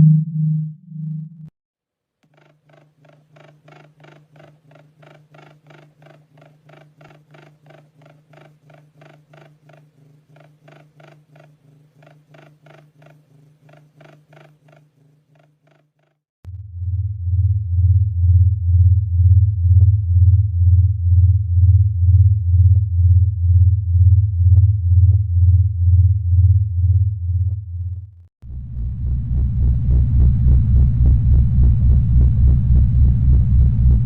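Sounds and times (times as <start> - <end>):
pulsing buzzy low hum: 0.0 - 1.5, 2.2 - 34.0.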